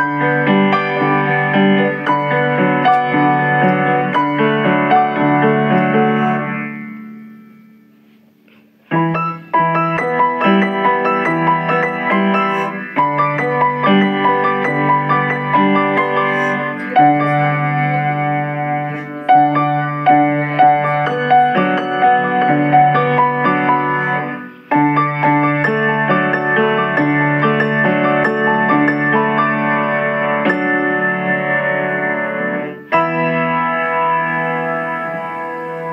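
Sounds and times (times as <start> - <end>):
piano music: 0.0 - 8.2, 8.9 - 35.9.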